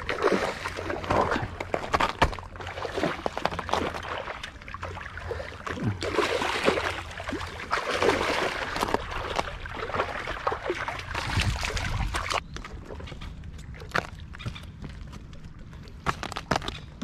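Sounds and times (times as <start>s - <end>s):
water splashing in shallows: 0.0s - 14.1s.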